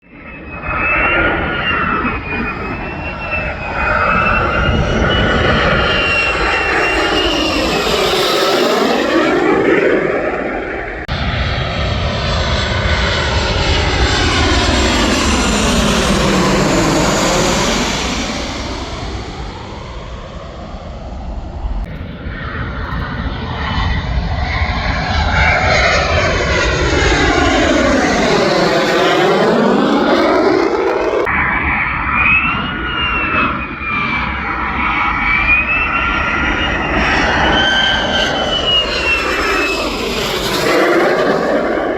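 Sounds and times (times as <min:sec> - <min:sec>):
aircraft engine passing over: 0:00.0 - 0:41.9.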